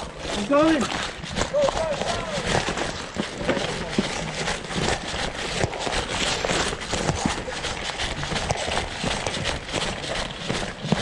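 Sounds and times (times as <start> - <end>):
running footsteps on woodland floor: 0.0 - 11.0
rustling through undergrowth: 0.0 - 11.0.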